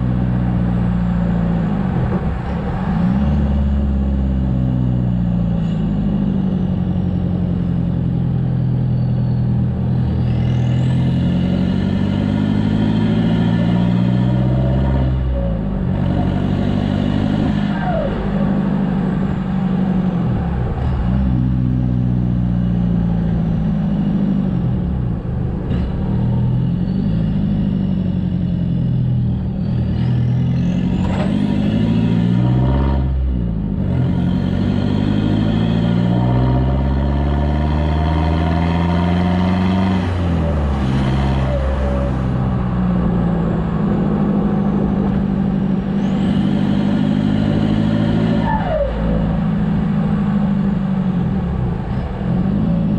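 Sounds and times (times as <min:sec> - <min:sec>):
diesel engine accelerating: 0:00.0 - 0:52.9.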